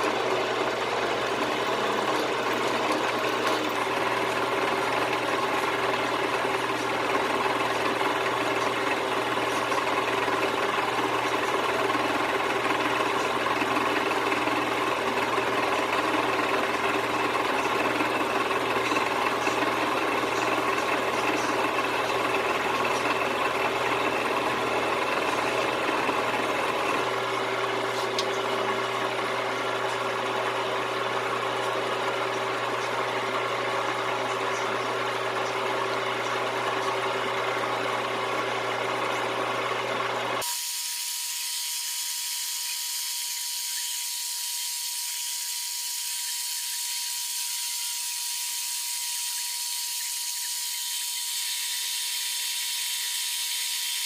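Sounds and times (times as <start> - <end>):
high motor whine: 0.0 - 54.0
machine tool motor humming: 0.0 - 54.0.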